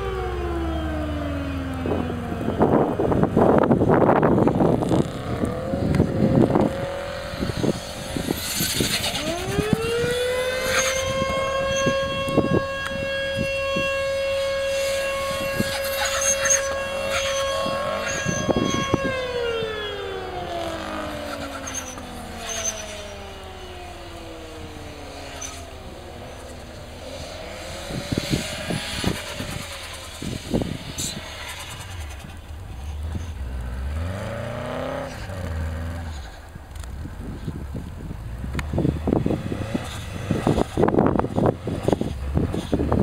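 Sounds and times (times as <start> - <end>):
car engine at high revs: 0.0 - 43.0.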